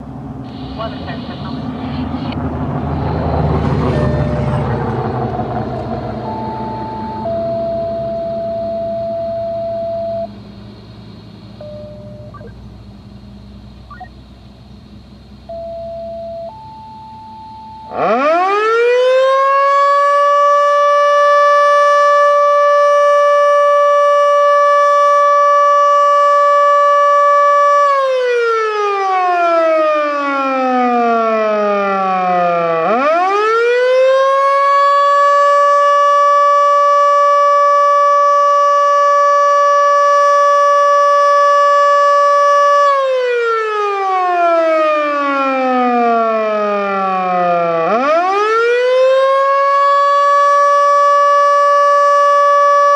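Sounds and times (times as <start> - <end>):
civil defense siren wailing: 0.0 - 10.6, 15.5 - 52.9.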